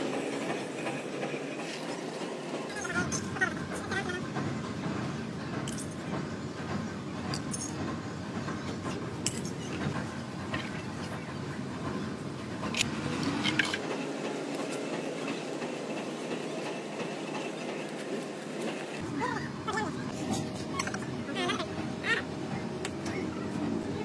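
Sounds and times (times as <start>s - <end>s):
workshop machinery rumble: 0.0s - 24.0s.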